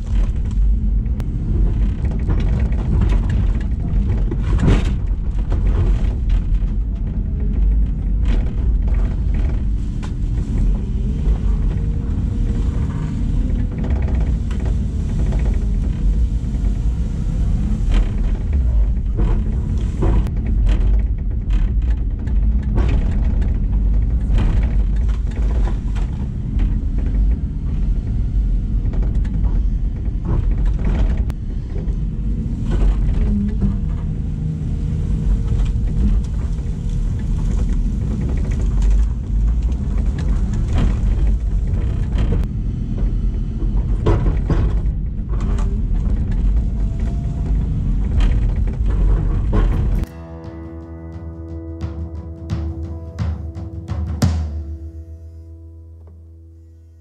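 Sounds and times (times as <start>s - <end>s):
diesel excavator engine running: 0.0s - 53.4s
machine clunks and rattles: 0.0s - 54.7s.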